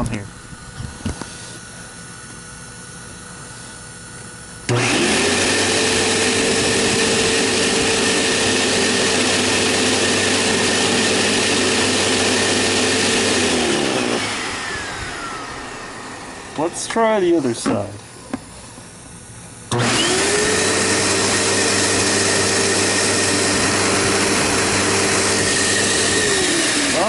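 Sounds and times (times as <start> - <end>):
upright vacuum cleaner running: 0.0 - 27.0.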